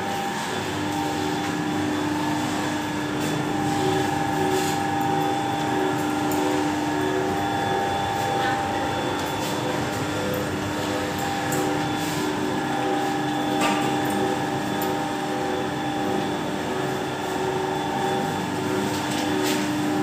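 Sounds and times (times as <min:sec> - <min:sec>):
noodle machine humming: 0:00.0 - 0:20.0.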